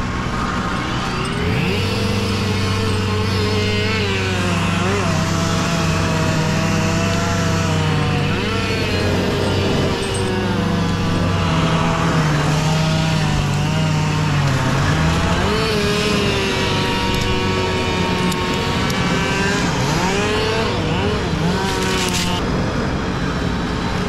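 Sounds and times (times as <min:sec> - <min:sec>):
engine running with changing revs: 0:00.0 - 0:24.0.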